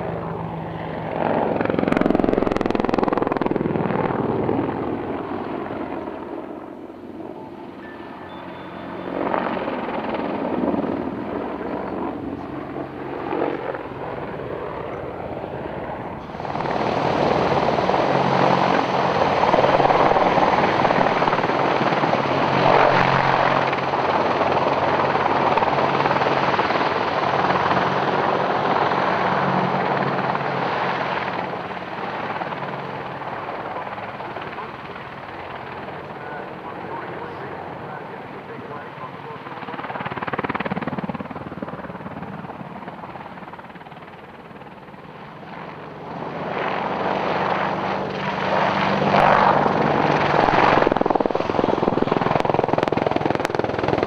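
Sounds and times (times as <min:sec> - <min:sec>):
helicopter rotor and engines: 0:00.0 - 0:54.0.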